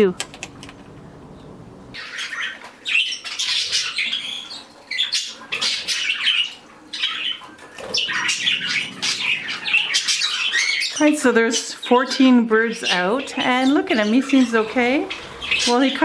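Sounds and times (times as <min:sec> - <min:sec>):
birds chirping and chattering: 0:00.0 - 0:16.0.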